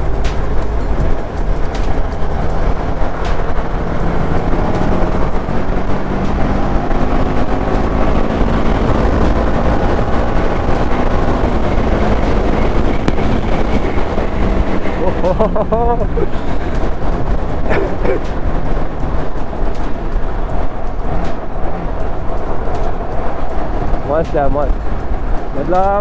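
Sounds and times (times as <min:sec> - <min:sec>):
motorcycle engine accelerating: 0:00.0 - 0:26.0
road noise: 0:00.0 - 0:26.0
wind noise: 0:00.0 - 0:26.0.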